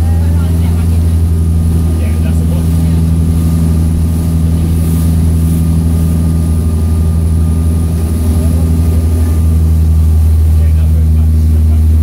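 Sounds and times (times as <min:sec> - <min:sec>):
churning wake water: 0:00.0 - 0:12.0
motorboat engine droning: 0:00.0 - 0:12.0.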